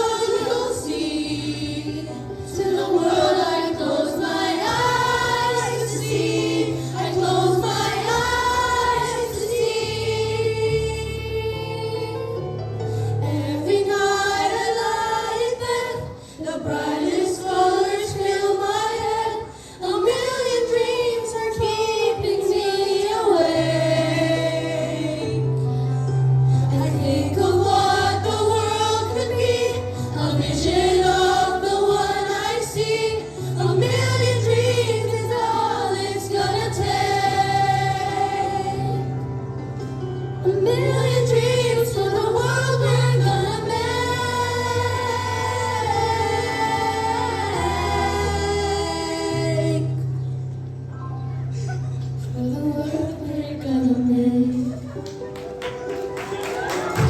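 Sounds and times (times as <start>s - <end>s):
children's choir singing: 0.0s - 12.5s, 13.2s - 25.5s, 26.7s - 39.2s, 40.5s - 50.0s.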